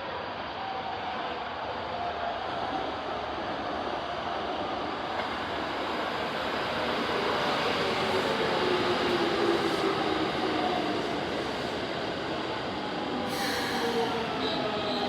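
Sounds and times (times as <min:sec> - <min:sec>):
electric train rumbling: 0:01.1 - 0:15.0.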